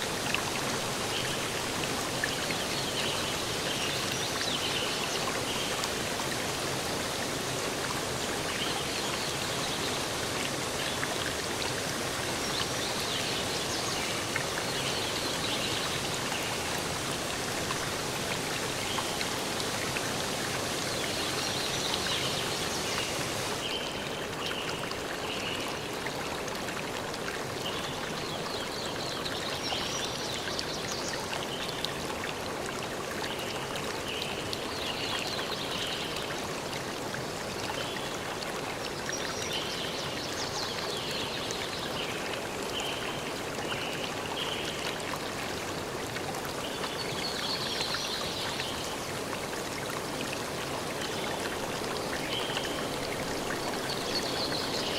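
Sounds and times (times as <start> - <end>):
running water: 0.0 - 54.9.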